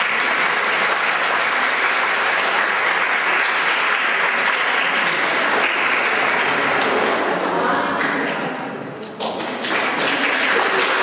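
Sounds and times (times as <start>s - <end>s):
audience applauding: 0.0s - 8.2s, 9.4s - 11.0s.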